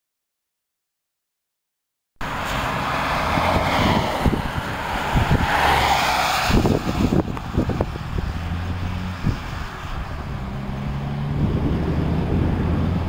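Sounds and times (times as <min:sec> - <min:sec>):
car driving past: 0:02.2 - 0:13.0
wind buffeting microphone: 0:02.3 - 0:13.0.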